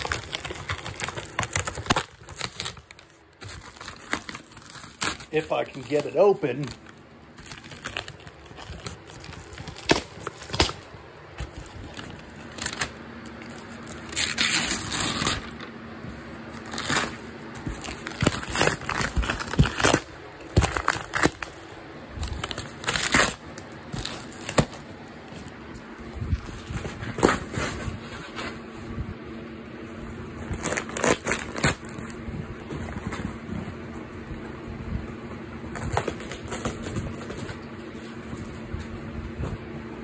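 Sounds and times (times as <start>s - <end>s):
cardboard crinkling and tearing: 0.0s - 28.7s, 29.9s - 33.9s, 35.7s - 38.7s.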